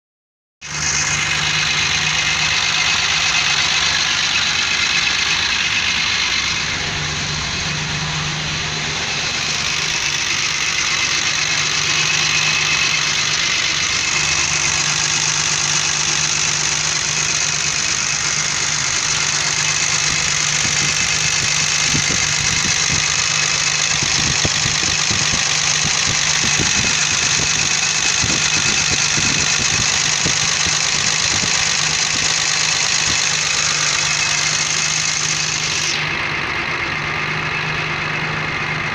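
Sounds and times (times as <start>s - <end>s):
car engine idling: 0.6s - 38.9s.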